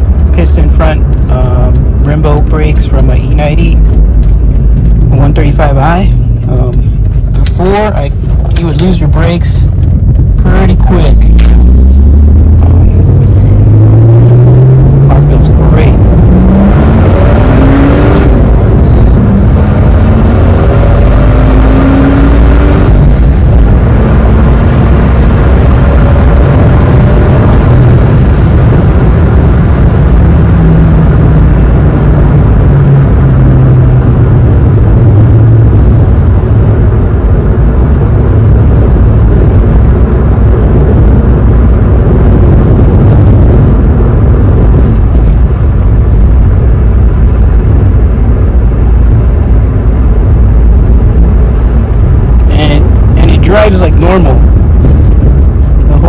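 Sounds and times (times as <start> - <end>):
car engine accelerating hard: 0.0 - 56.0
road and wind noise: 0.0 - 56.0.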